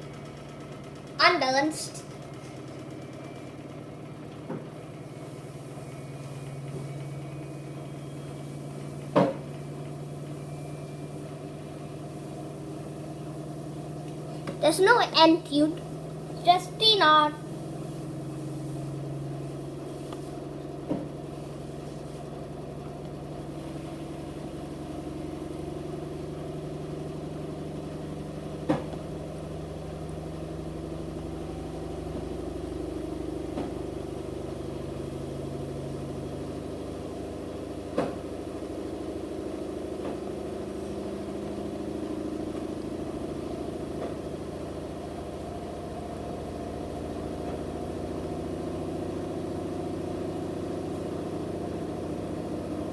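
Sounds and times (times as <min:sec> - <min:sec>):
washing machine spinning hum: 0:00.0 - 0:52.9.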